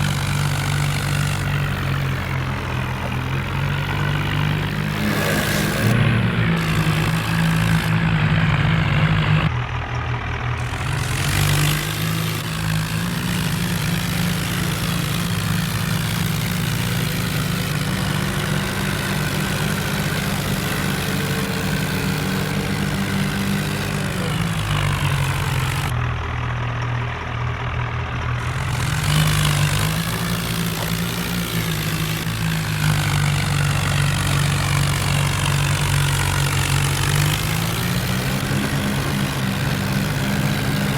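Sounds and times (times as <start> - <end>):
tractor engines running under load: 0.0 - 40.9.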